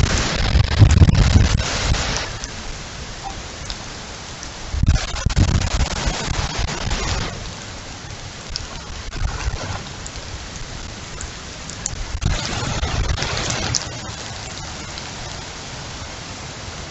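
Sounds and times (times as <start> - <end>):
low rumble: 0.0 - 4.0, 4.6 - 15.1
heavy rain pouring: 0.0 - 16.9.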